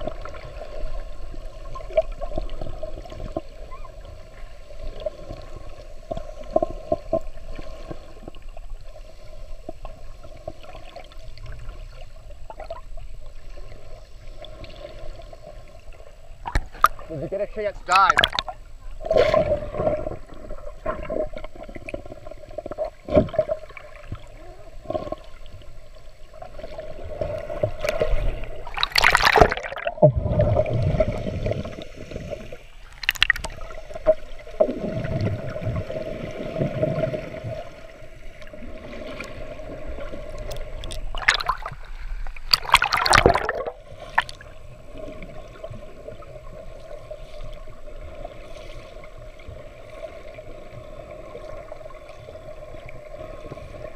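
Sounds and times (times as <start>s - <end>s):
underwater sloshing and gurgling: 0.0s - 53.9s
water splashes: 0.0s - 53.9s.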